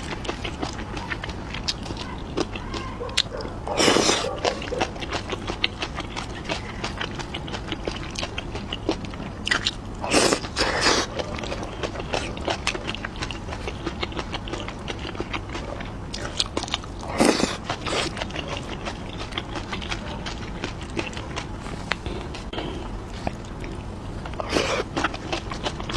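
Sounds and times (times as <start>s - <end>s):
chewing and biting: 0.0s - 25.9s.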